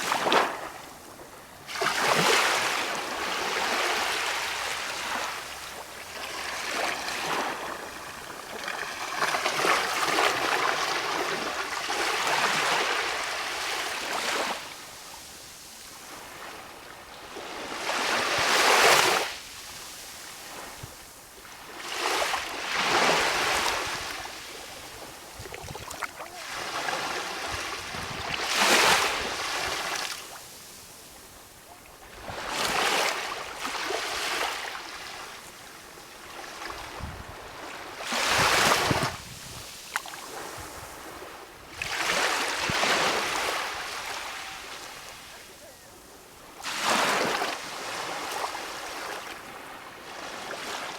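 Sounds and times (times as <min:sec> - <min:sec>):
small waves washing in: 0:00.0 - 0:50.9.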